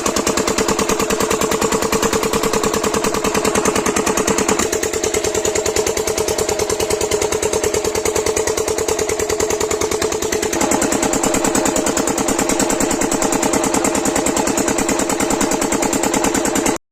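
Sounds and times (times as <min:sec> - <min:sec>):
diesel engine running: 0:00.0 - 0:16.8.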